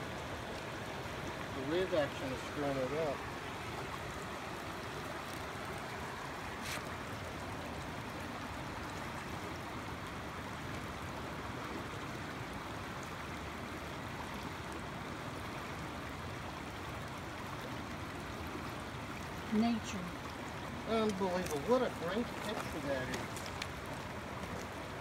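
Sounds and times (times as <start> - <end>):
creek water running over rocks: 0.0 - 25.0.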